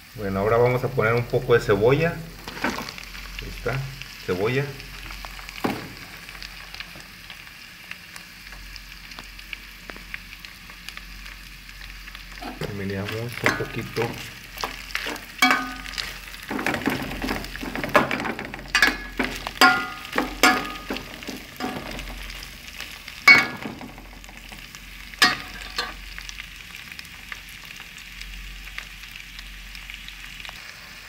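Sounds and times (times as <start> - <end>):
frying sizzle: 0.0 - 31.0.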